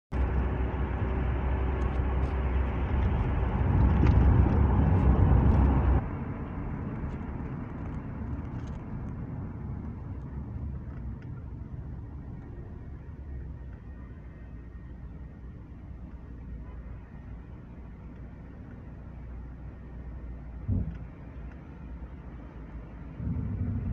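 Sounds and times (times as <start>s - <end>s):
car engine and tyres rumbling: 0.1s - 23.9s.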